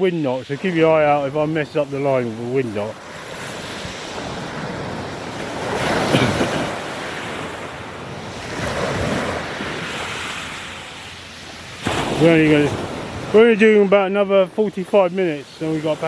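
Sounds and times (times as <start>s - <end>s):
wind on microphone: 0.0s - 13.6s
sea waves breaking on beach: 0.0s - 16.0s.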